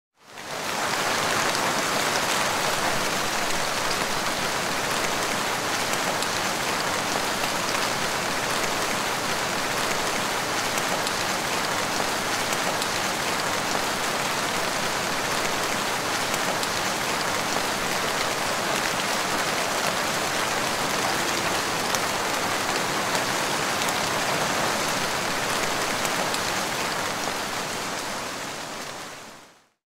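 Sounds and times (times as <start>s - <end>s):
heavy rain falling: 0.3s - 29.6s.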